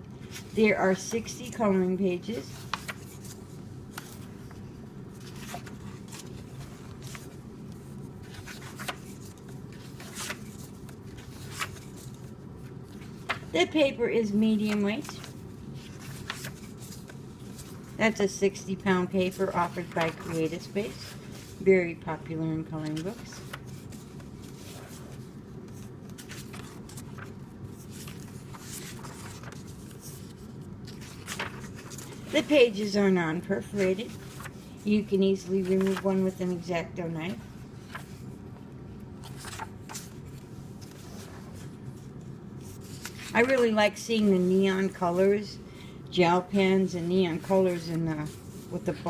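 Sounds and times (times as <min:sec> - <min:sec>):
low steady hum: 0:00.0 - 0:49.0
paper pages rustling: 0:01.6 - 0:36.6, 0:37.3 - 0:45.2, 0:47.0 - 0:49.0.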